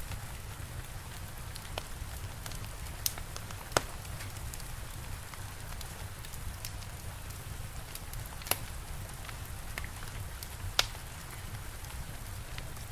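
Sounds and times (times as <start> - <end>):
fire crackling: 0.0 - 12.9
steady rain hiss: 0.0 - 12.9.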